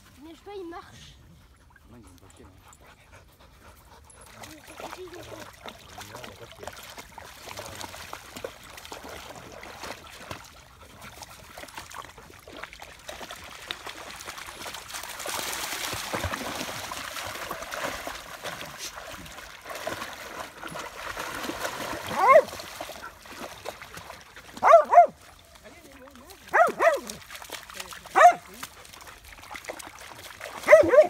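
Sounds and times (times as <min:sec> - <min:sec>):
dogs splashing through water: 0:00.0 - 0:31.0.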